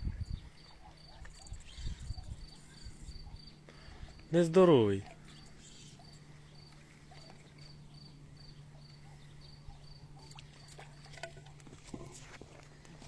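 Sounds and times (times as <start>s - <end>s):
faint insect chirping: 0.0s - 4.4s, 5.0s - 11.5s
low steady hum: 0.0s - 13.0s.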